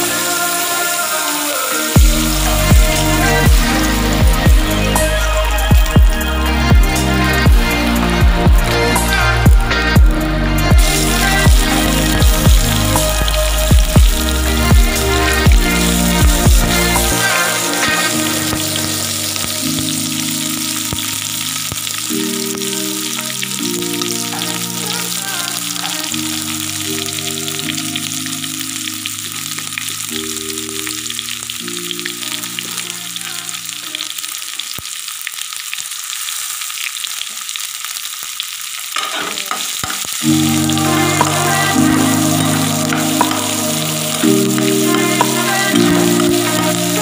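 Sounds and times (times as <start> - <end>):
onions frying in oil: 0.0 - 7.8, 10.8 - 47.0
soft background music: 0.0 - 34.6, 40.1 - 47.0.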